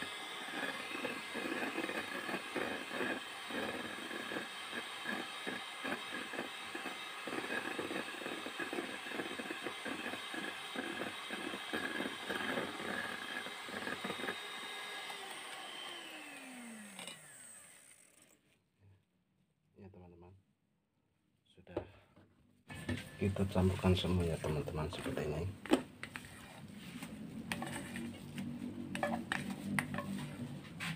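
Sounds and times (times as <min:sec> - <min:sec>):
electric hand mixer whirring: 0:00.0 - 0:18.4, 0:22.7 - 0:30.9.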